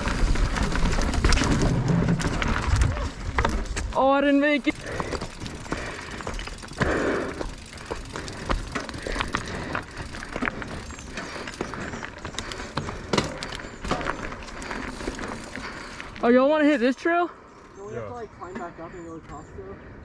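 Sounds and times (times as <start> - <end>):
bike rattling over rocks: 0.0 - 17.0
tyre or brake rush: 0.0 - 17.3.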